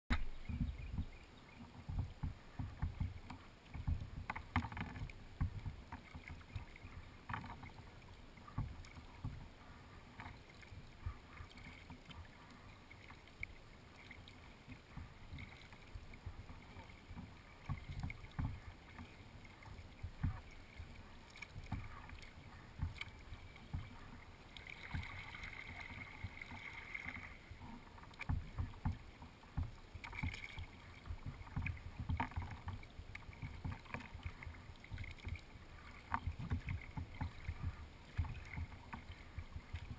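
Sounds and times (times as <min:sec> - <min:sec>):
water lapping against kayak hull: 0:00.1 - 0:39.9
water splashing: 0:00.1 - 0:39.9.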